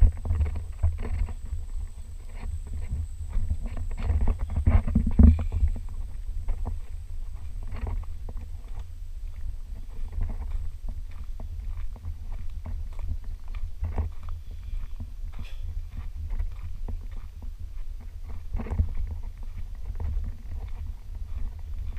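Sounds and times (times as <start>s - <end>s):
footsteps crunching on stony path: 0.0s - 21.9s
low microphone rumble: 0.0s - 21.9s.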